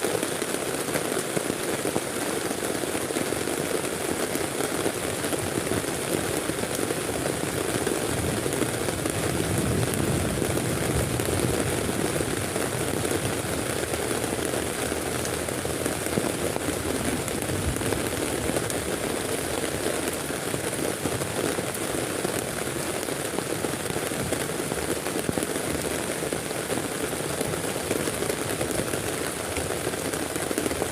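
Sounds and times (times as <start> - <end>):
heavy rain on a tent: 0.0 - 30.9.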